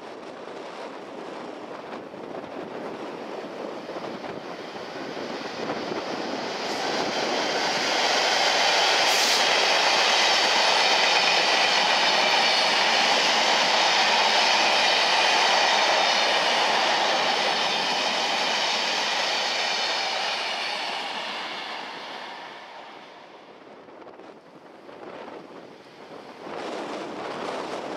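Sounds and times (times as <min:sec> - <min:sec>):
train wheels on rails: 0:00.0 - 0:27.9.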